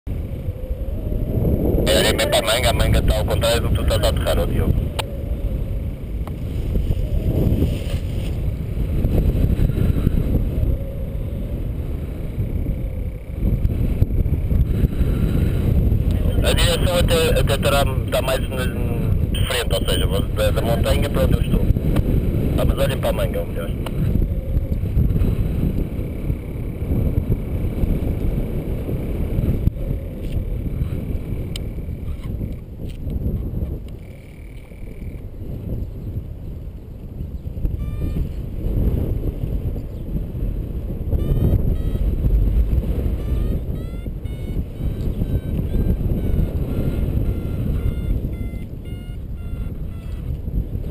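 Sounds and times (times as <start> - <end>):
wind buffeting microphone: 0.1 - 50.9.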